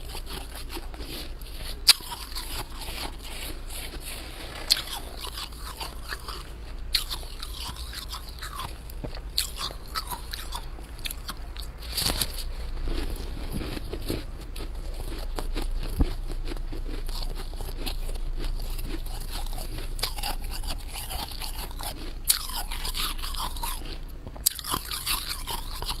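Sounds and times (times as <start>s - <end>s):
frost crunching: 0.0s - 26.0s.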